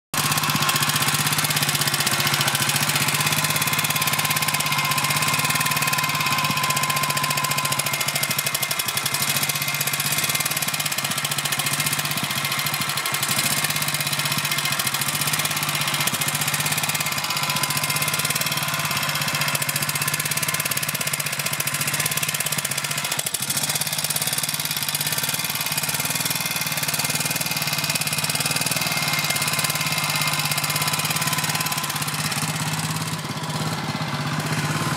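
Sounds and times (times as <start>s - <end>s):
faint odd engine noise: 0.2s - 34.9s
motorcycle engine idling: 0.2s - 34.9s.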